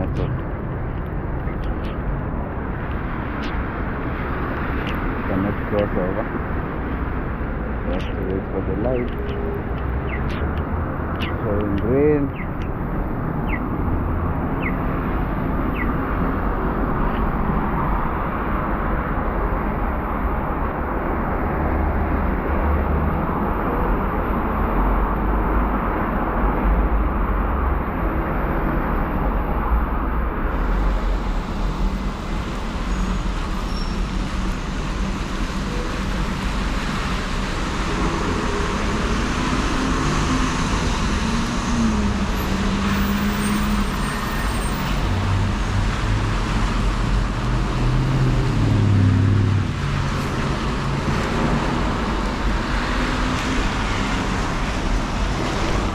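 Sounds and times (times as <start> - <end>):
city traffic rumble: 0.0 - 55.9.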